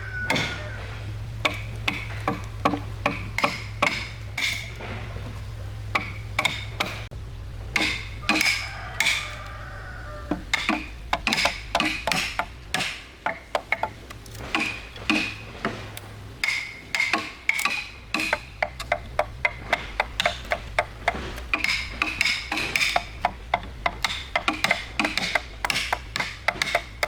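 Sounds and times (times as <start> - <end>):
hand tools knocking on wood: 0.0 - 7.1, 7.7 - 27.0.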